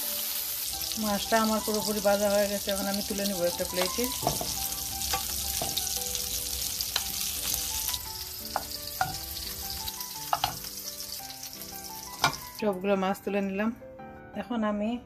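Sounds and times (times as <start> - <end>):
fish sizzling in oil: 0.0 - 12.8.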